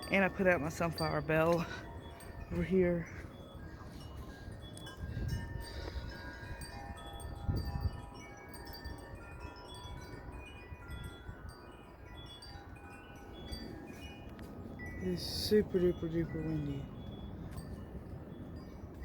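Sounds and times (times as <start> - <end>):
low rumble of wind: 0.0 - 19.0
wind chimes ringing: 0.0 - 19.0.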